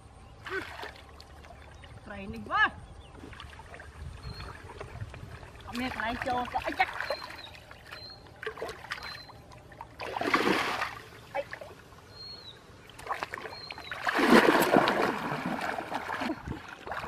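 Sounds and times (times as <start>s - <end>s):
water sloshing from wading: 0.4s - 17.0s.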